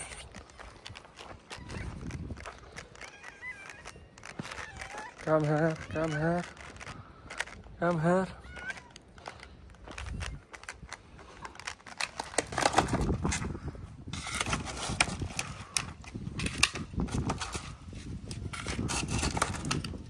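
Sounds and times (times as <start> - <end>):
cats crunching food: 0.0 - 20.0.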